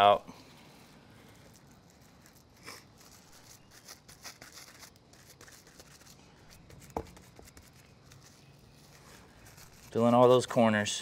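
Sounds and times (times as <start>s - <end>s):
plastic wrap crinkling: 0.9s - 10.5s.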